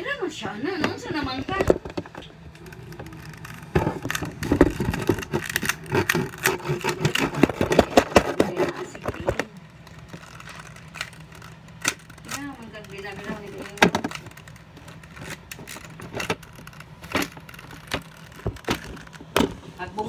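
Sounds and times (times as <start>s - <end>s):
phone handling noise: 0.8s - 19.7s.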